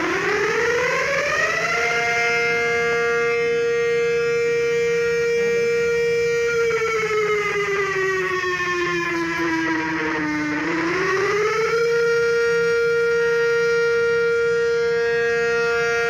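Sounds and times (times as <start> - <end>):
tornado warning siren: 0.0 - 16.0.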